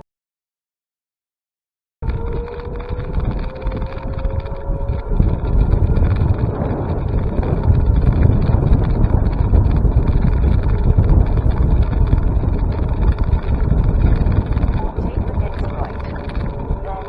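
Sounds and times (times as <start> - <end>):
wind buffeting microphone: 2.0 - 17.0.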